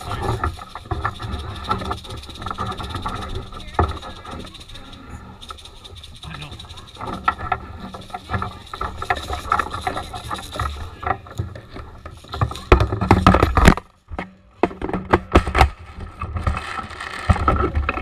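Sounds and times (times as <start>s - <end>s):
rustling scraping and knocks: 0.0s - 18.0s.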